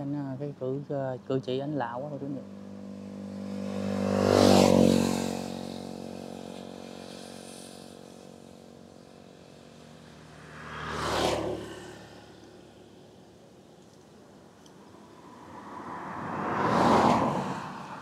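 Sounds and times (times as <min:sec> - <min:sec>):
vehicles passing: 0:00.0 - 0:18.0.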